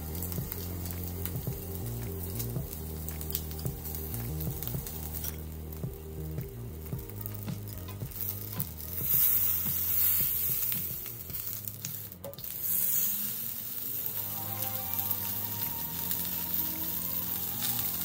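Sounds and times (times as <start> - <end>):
fish sizzling on a grill pan: 0.0 - 18.0.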